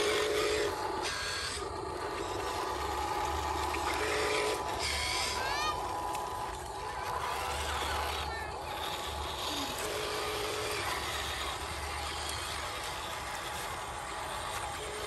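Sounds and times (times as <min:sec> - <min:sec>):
outdoor noise: 0:00.0 - 0:15.0
toy truck motor whirring: 0:00.0 - 0:15.0.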